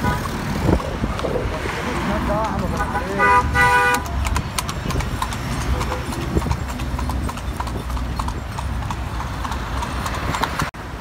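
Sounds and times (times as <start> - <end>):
horse hooves clip-clopping on pavement: 0.0 - 10.8.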